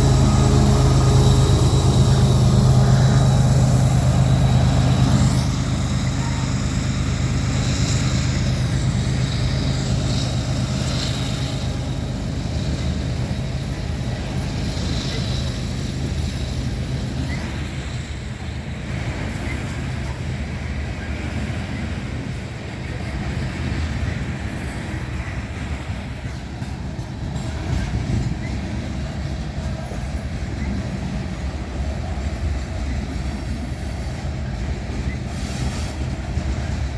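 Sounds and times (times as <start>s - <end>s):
locomotive engine drone: 0.0s - 20.4s, 24.1s - 36.9s
rumble of passing train: 0.0s - 21.6s, 24.0s - 36.9s
faint high whining tones: 0.0s - 36.9s.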